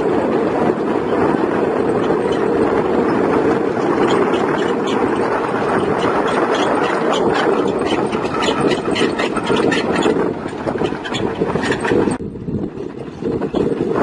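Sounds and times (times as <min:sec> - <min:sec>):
bulldozer diesel engine running: 0:00.0 - 0:14.0
crackling clatter: 0:00.0 - 0:14.0.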